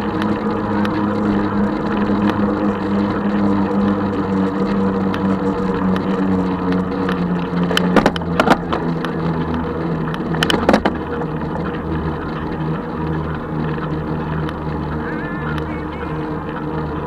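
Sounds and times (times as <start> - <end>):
electric bike motor humming: 0.0 - 17.0
wind and road noise: 0.0 - 17.0.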